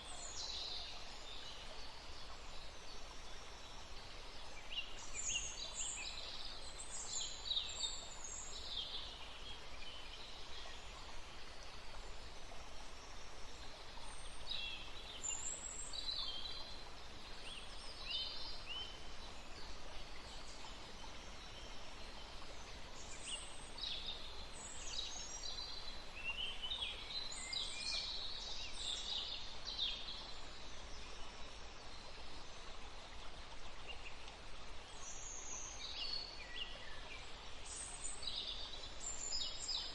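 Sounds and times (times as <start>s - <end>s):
forest ambience hiss: 0.0s - 39.9s.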